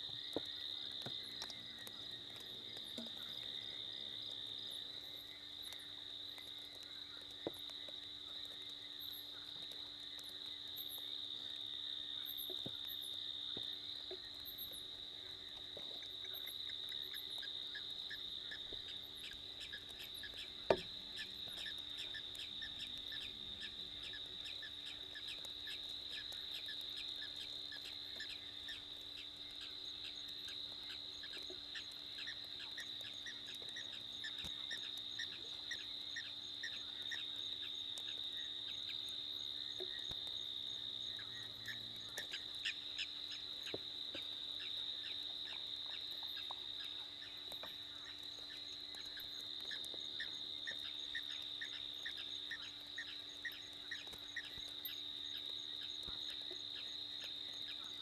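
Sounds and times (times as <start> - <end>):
insects trilling and chirping: 0.0 - 58.0.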